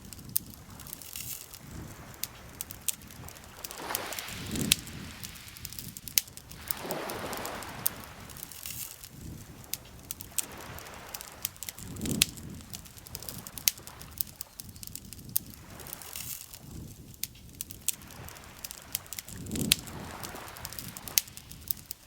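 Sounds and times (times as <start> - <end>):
burning wood popping and snapping: 0.0 - 22.0
soft fire hiss: 0.0 - 22.0.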